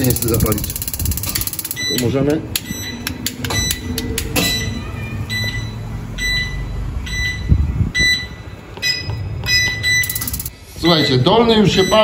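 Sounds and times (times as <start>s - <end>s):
short high beeps: 1.5s - 12.0s.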